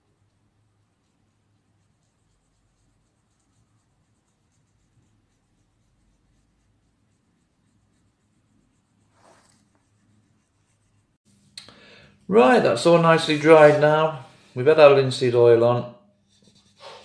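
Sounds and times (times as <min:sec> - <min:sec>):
paintbrush scratching on wood: 0:00.2 - 0:11.5, 0:12.2 - 0:15.3, 0:16.2 - 0:17.0.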